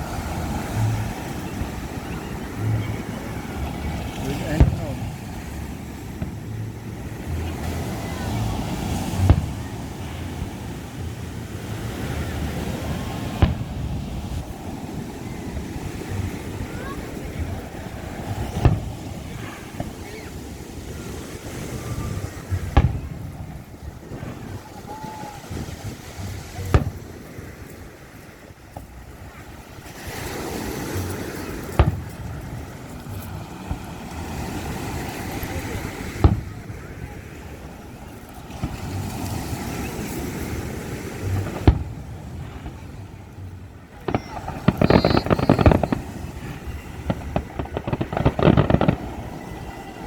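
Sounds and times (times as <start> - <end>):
fireworks bangs: 0.0 - 50.0
rushing background noise: 0.0 - 50.0
voices: 0.0 - 50.0
wind noise: 0.0 - 50.0.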